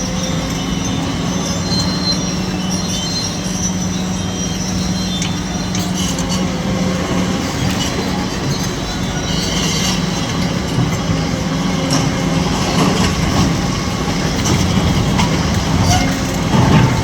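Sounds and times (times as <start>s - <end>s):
excavator diesel engine droning: 0.0s - 17.0s
high-pitched squeals: 0.0s - 17.0s.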